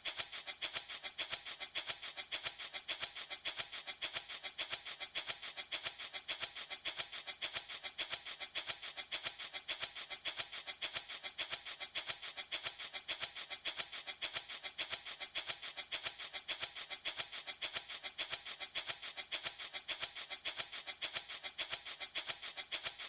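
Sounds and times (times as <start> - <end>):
baby rattle shaken: 0.0 - 23.0.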